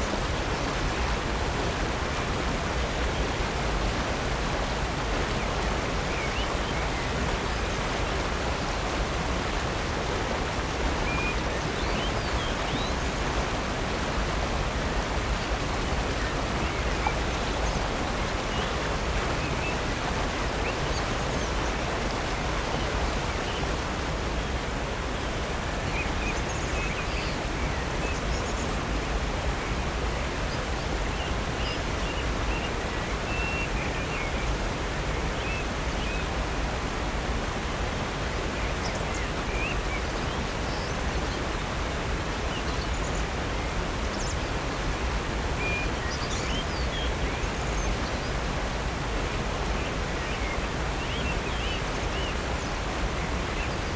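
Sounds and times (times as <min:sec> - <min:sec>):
rushing water: 0:00.0 - 0:53.9.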